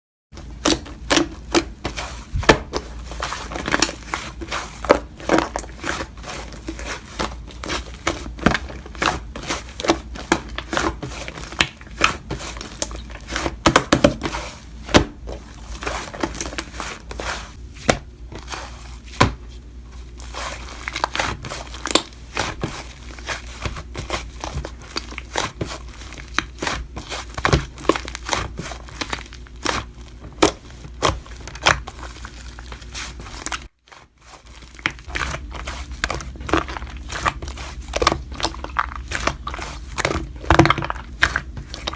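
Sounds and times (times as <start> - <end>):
hands squishing slime: 0.4 - 41.9.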